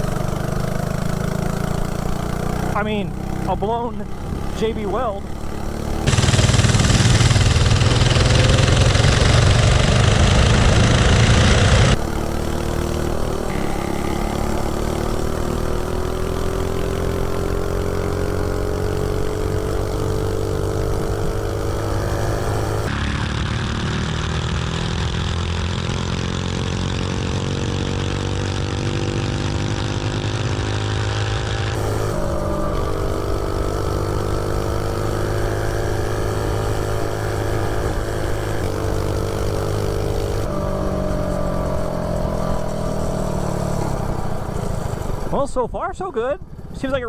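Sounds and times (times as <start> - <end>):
mini bike engine under load: 0.0 - 47.0.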